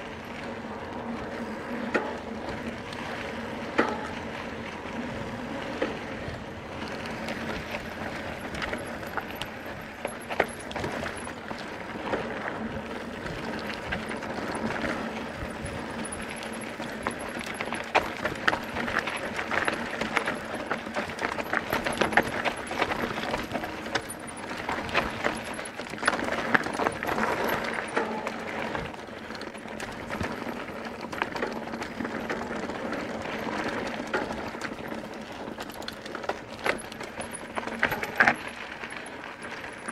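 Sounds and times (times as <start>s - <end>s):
bike rattling: 0.0s - 39.9s
bike tyres on dirt: 0.0s - 39.9s.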